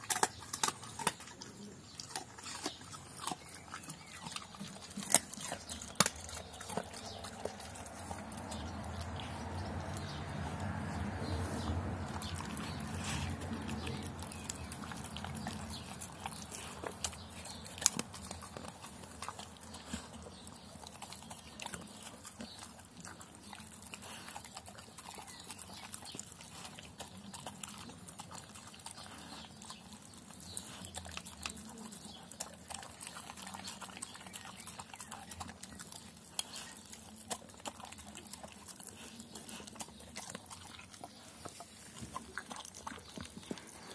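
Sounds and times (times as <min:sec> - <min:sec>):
dog chewing from a metal bowl: 0:00.0 - 0:43.9.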